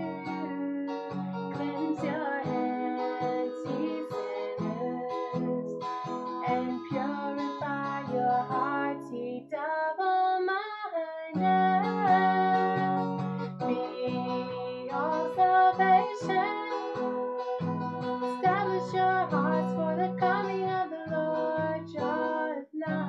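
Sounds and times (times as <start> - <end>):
acoustic guitar strumming: 0.0 - 9.5, 11.3 - 23.0
woman singing: 0.0 - 23.0.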